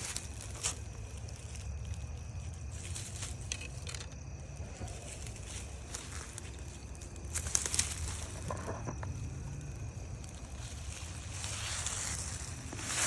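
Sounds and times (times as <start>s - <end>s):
dry leaves crackling underfoot: 0.0s - 13.0s.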